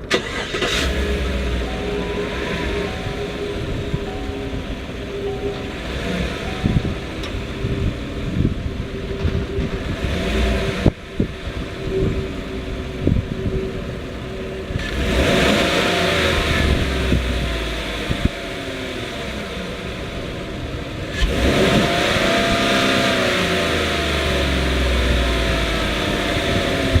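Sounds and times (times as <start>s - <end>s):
pickup engine revving: 0.0s - 27.0s.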